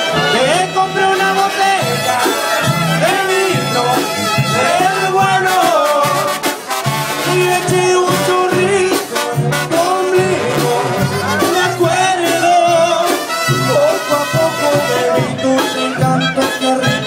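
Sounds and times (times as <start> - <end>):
live brass band music: 0.0 - 17.0
man singing: 0.0 - 17.0.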